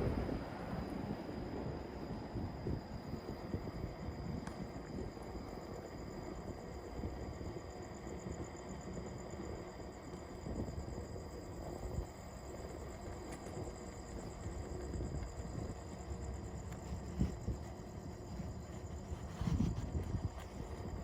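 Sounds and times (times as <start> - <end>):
wind and tyre rumble: 0.0 - 21.0.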